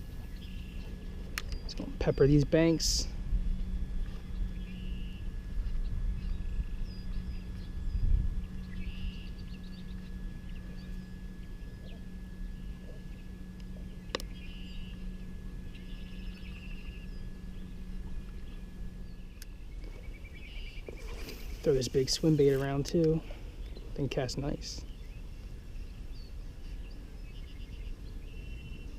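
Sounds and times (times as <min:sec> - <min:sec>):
low rumble: 0:00.0 - 0:28.9
birds singing trilled phrases: 0:00.1 - 0:28.9.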